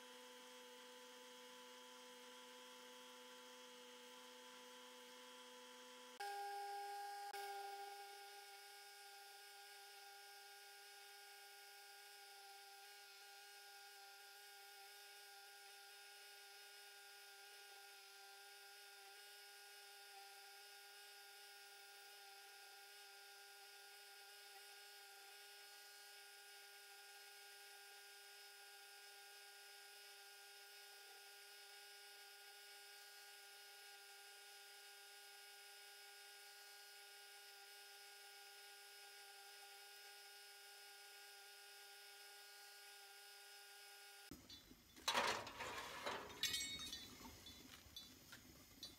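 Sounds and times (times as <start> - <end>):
bench grinder motor humming: 0.0 - 48.9.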